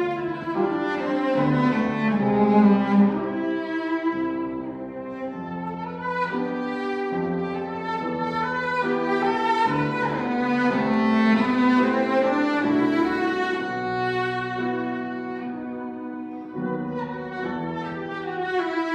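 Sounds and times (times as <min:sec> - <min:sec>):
cellos playing bowed notes: 0:00.0 - 0:18.9.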